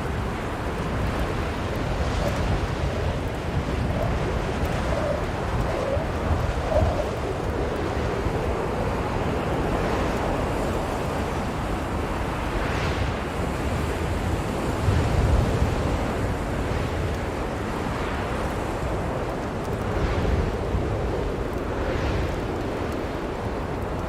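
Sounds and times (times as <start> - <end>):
strong blizzard wind gusting: 0.0 - 24.0.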